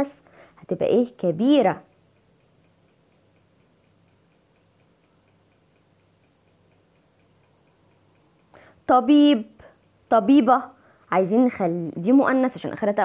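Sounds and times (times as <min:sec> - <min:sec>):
faint even ticking: 0:00.0 - 0:13.0
faint steady hum: 0:00.0 - 0:13.0.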